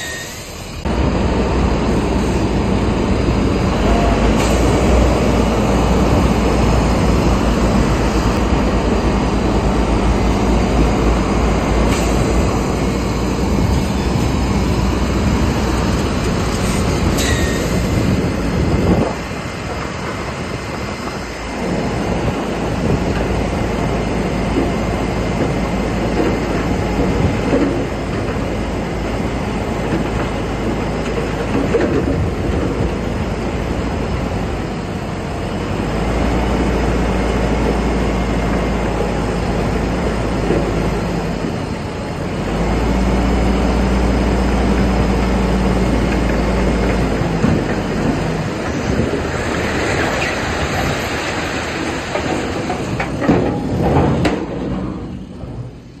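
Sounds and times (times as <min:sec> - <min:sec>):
bulldozer diesel engine: 0:00.0 - 0:56.0
crawler tracks clanking: 0:00.9 - 0:34.6, 0:35.7 - 0:56.0.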